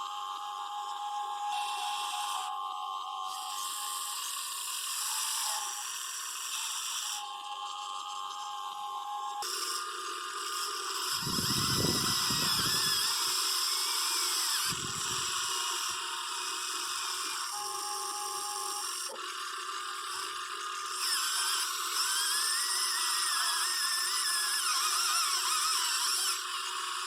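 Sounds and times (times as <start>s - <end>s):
electric motors whining: 0.0s - 27.0s.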